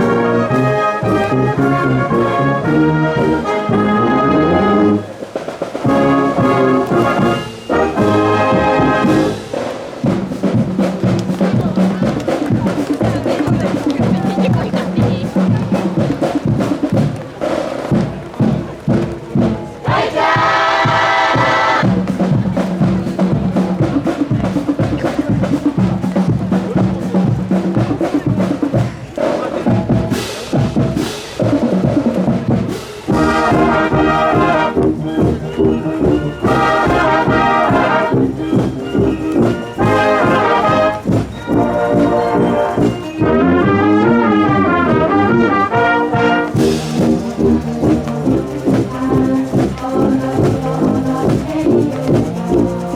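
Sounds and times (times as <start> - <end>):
marching band playing: 0.0 - 52.9
steady marching drum beat: 0.0 - 52.9
trumpets and trombones: 0.0 - 52.9.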